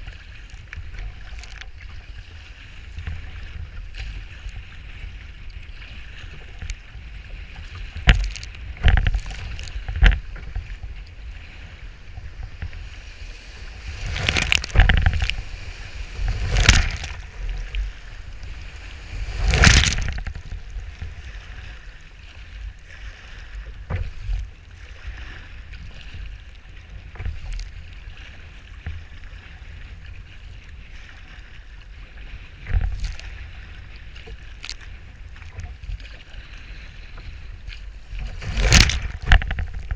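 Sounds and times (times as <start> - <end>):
waves splashing against hull: 0.0 - 39.9
wind and choppy water rush: 0.0 - 39.9.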